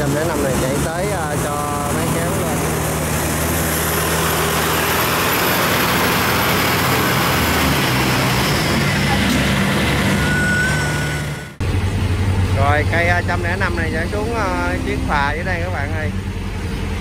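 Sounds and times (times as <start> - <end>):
combine harvester engine running: 0.0 - 17.0.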